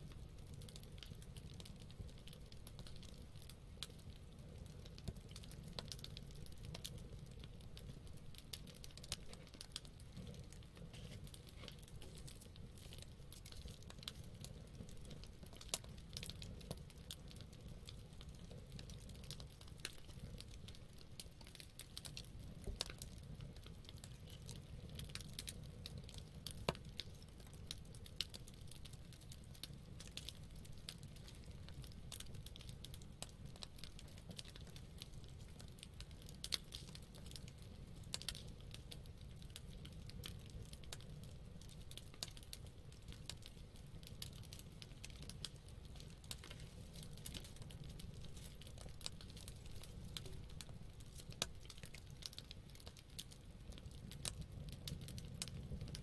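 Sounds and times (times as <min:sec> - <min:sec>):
fire crackling and popping: 0:00.0 - 0:56.0
low rumble of flames: 0:00.0 - 0:56.0
sharp snaps of fire: 0:00.0 - 0:56.0.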